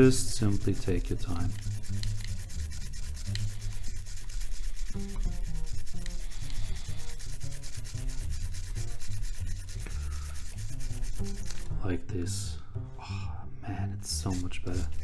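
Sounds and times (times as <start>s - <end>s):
light rubbing strokes on camera: 0.0s - 11.8s, 14.1s - 15.0s.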